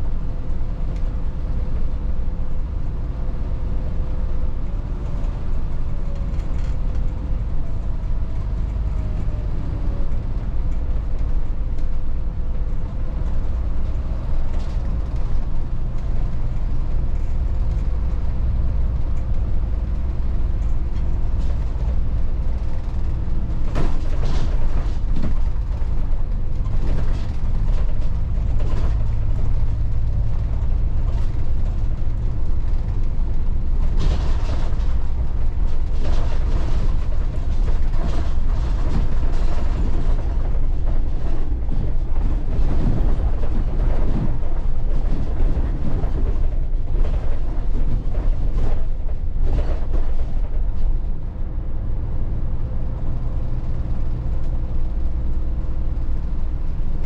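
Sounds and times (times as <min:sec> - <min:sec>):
bus engine rumble: 0:00.0 - 0:57.0
creaks and rattles of bus body: 0:00.0 - 0:57.0.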